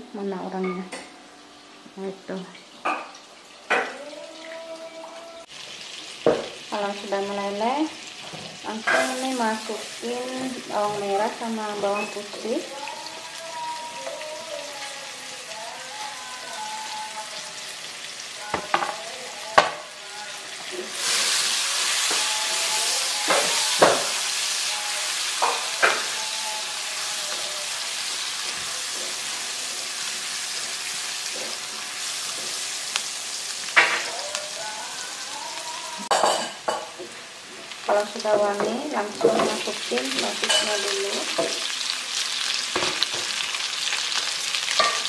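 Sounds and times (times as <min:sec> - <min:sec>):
shallots and garlic sizzling: 0:00.1 - 0:45.0.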